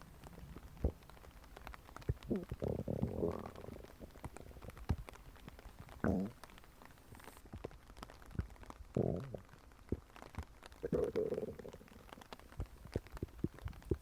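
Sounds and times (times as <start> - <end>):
faint crackling clicks: 0.0 - 14.0
stomach gurgling: 0.0 - 14.0.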